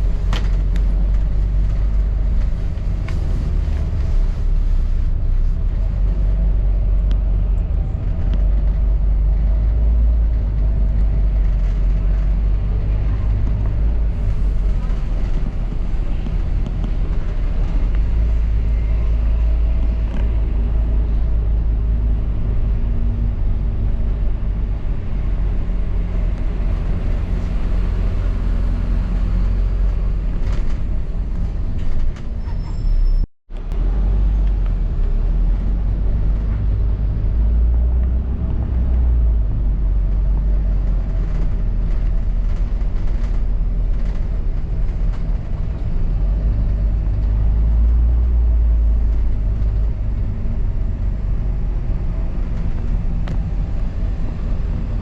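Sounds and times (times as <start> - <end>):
bus body rattling: 0.0 - 33.9, 34.8 - 55.0
bus engine and road rumble: 0.0 - 55.0.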